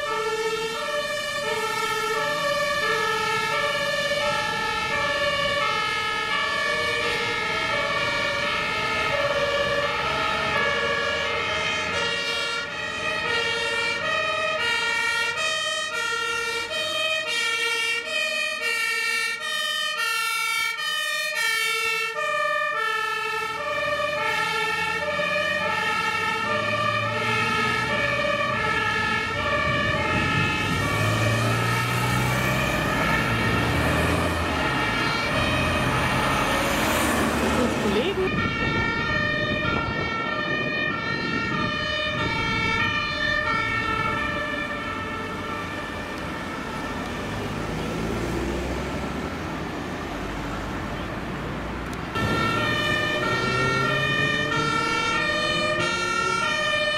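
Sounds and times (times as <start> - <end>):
diesel truck engine rumbling: 0.0 - 56.9.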